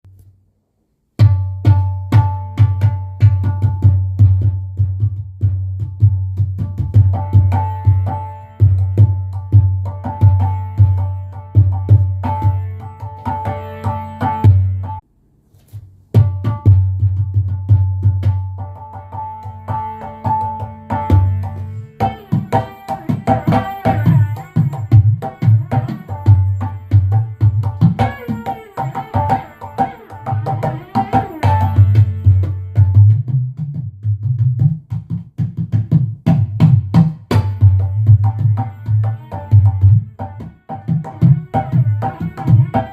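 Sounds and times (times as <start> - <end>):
electronic hand drum played rhythmically: 1.2 - 15.0, 16.2 - 42.9.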